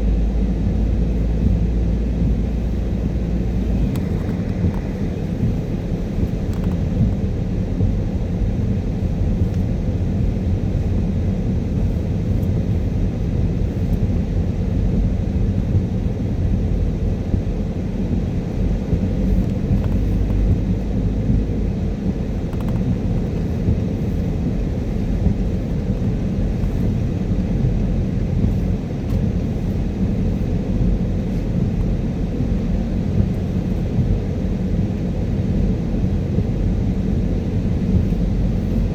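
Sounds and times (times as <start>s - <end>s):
car engine: 0.0s - 38.9s
tyre noise on wet road: 0.6s - 38.9s.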